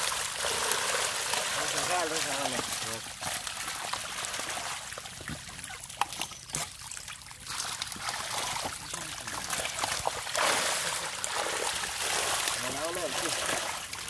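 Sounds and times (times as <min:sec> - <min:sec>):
mud and water splashing: 0:00.0 - 0:14.0.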